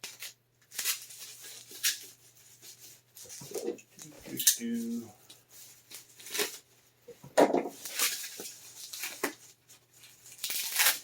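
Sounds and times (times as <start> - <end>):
packing material rustling: 0.0 - 6.9, 7.7 - 11.0.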